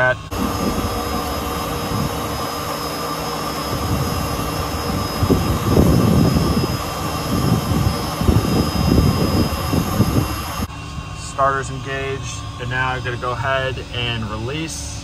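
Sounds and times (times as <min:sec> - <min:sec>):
low engine rumble: 0:00.0 - 0:15.0
turbine whine and rush of air: 0:00.0 - 0:15.0.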